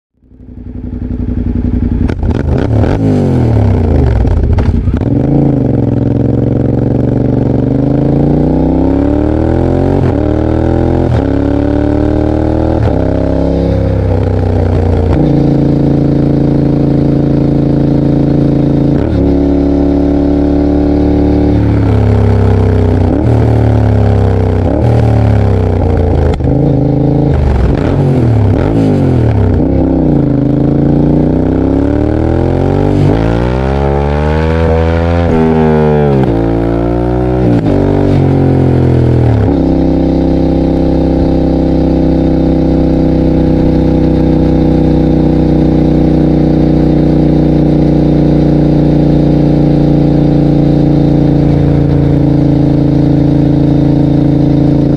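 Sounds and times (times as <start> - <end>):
motorcycle engine accelerating: 0.2 - 54.9.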